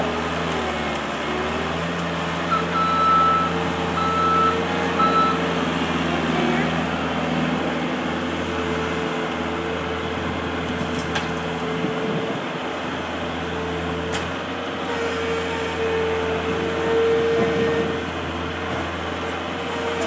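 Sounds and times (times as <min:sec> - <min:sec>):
heavy engines running: 0:00.0 - 0:20.0.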